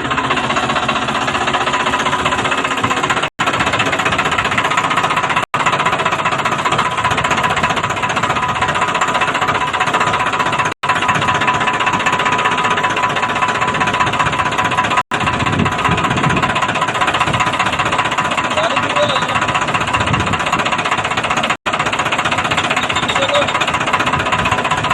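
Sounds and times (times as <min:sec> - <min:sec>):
tractor engine clattering: 0:00.0 - 0:24.9.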